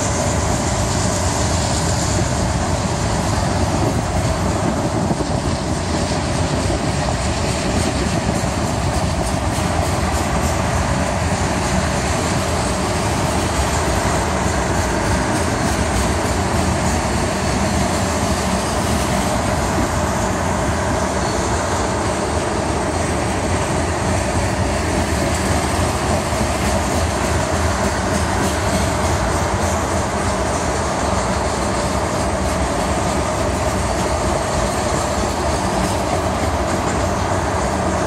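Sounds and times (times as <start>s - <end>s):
steel wheels rumbling on rails: 0.0s - 38.0s.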